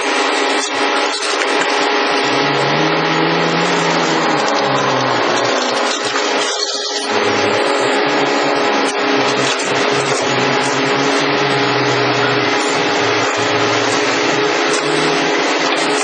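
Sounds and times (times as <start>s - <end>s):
heavy machinery engine and hydraulics: 0.0s - 16.0s.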